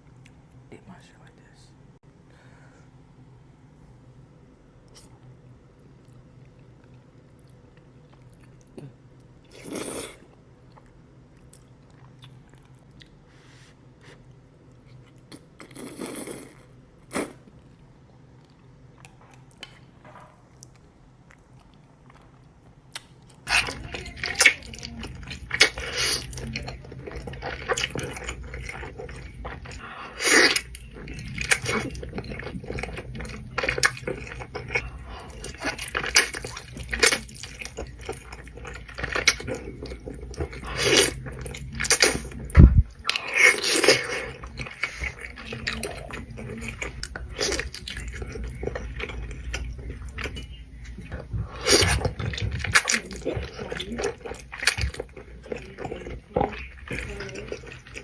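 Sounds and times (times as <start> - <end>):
person chewing food: 4.8 - 58.0.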